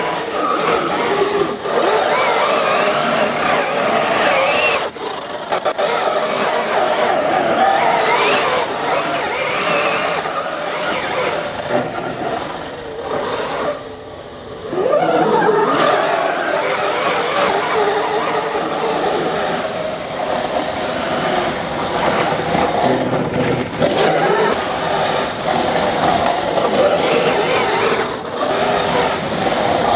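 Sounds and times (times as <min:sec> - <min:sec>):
electric rc car motor whining: 0:00.0 - 0:29.9.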